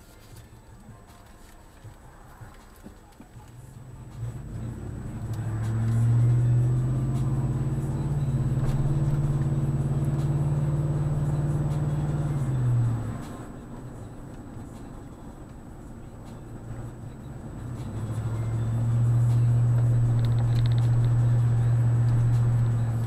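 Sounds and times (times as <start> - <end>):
car cabin noise while driving: 0.0 - 23.0.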